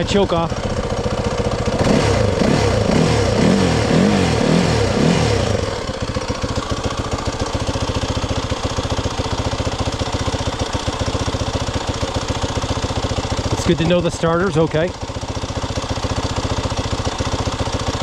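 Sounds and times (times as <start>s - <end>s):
off-road vehicle engine idling: 0.0s - 18.0s.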